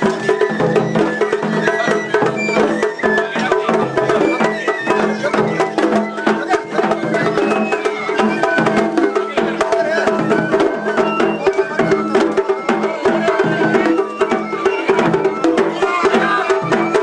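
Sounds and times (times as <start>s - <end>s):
drums and small percussion: 0.0s - 17.0s.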